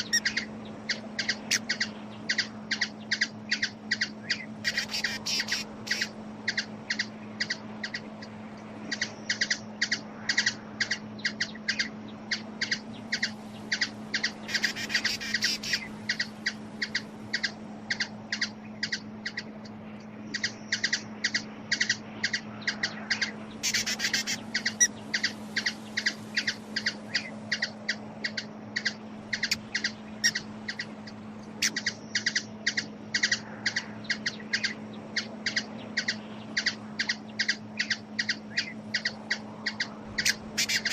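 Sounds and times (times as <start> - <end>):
hummingbird chip calls: 0.0 - 40.9
steady low hum: 0.0 - 40.9.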